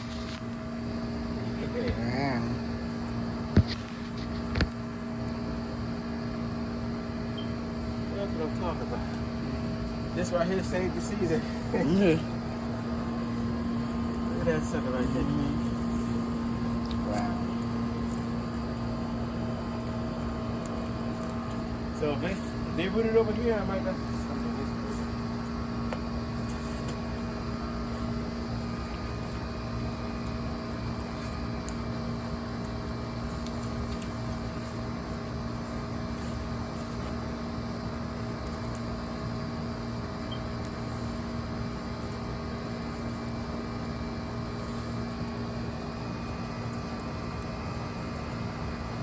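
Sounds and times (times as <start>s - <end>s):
steady mechanical hum: 0.0s - 49.0s.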